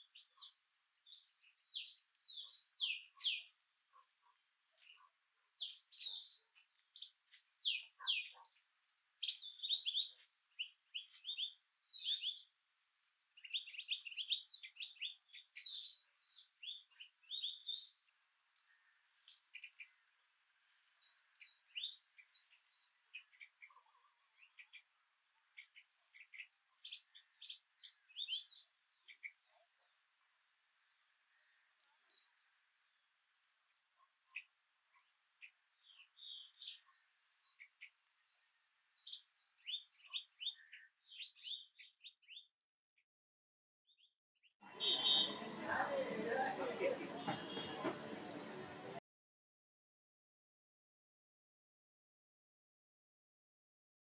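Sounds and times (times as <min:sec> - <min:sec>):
small birds chirping: 0:00.0 - 0:42.6, 0:43.9 - 0:49.0.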